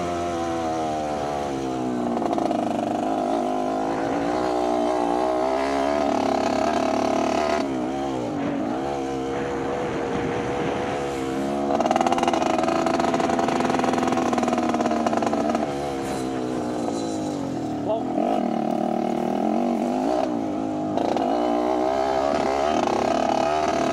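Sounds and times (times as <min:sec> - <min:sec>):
motocross engine revving: 0:00.0 - 0:23.9.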